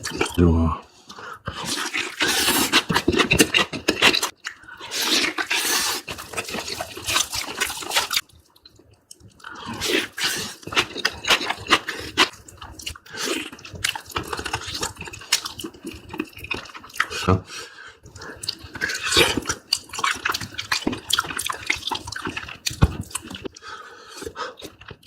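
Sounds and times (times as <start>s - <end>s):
wet chewing: 1.0s - 17.4s, 18.0s - 25.0s.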